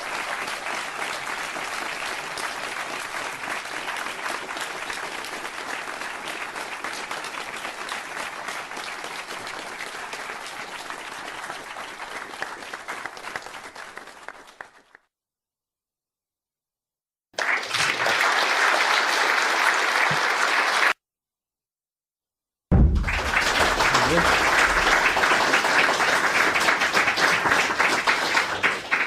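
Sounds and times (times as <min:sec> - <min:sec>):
audience applause: 0:00.0 - 0:15.0, 0:17.4 - 0:21.0, 0:22.7 - 0:29.0.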